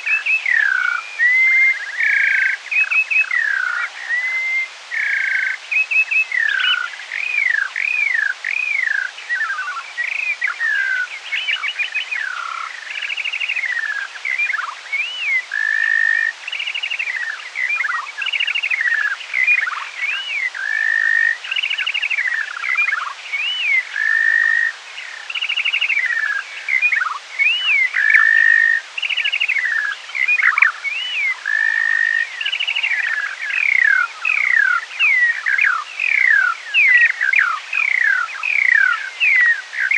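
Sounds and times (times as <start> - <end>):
slowed bird song: 0.0 - 39.9.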